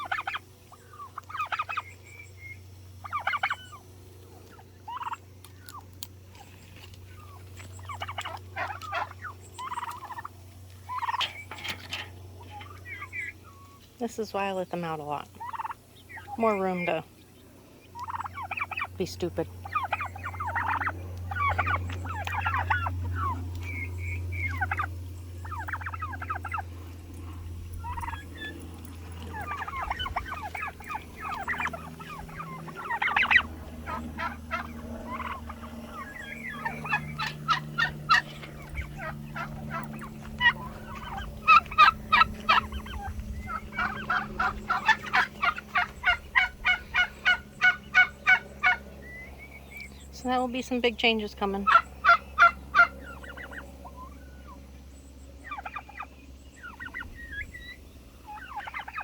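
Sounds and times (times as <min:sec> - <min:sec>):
steady low hum: 0:00.0 - 0:59.0
turkeys gobbling: 0:00.0 - 0:59.0.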